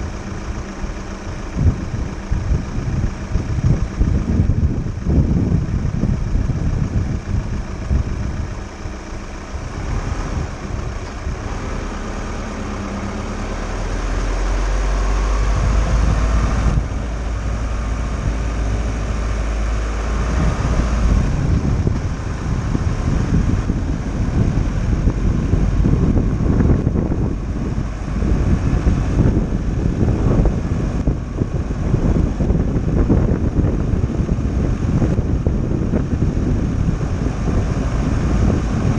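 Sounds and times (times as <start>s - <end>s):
deep low hum: 0.0s - 38.9s
van engine and tyre rumble: 0.0s - 38.9s
wind rumble on microphone: 0.0s - 38.9s.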